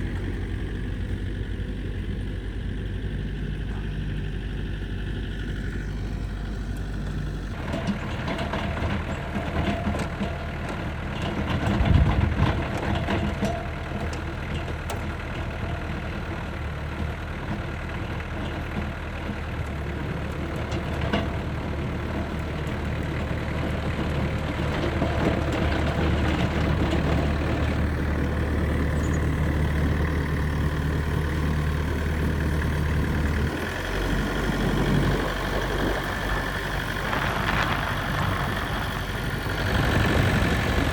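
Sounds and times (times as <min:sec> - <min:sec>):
snowblower engine running: 0:00.0 - 0:40.9.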